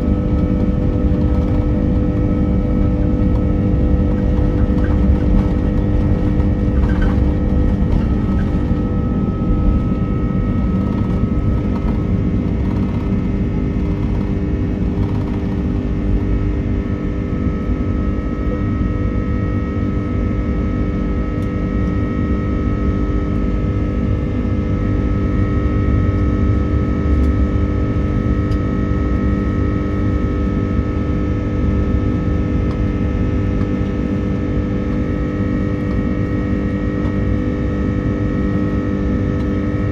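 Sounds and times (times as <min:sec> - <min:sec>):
jet engines heard inside cabin: 0:00.0 - 0:39.9.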